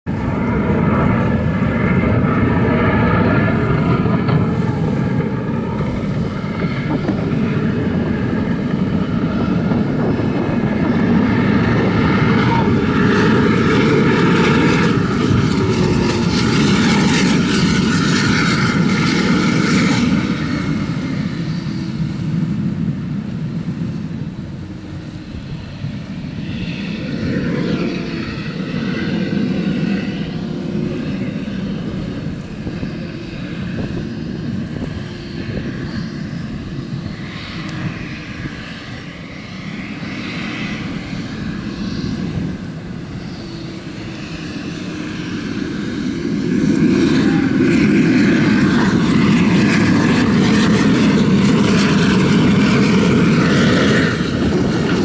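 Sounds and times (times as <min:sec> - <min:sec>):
high engine whine: 0:00.0 - 0:55.0
jetboat jet engine: 0:00.0 - 0:55.0.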